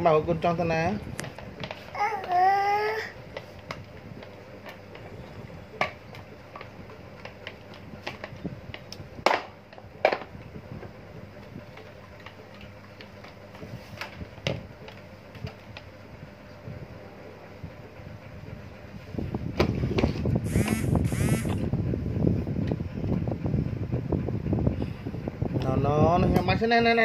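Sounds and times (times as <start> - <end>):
faint background hum: 0.0 - 27.0.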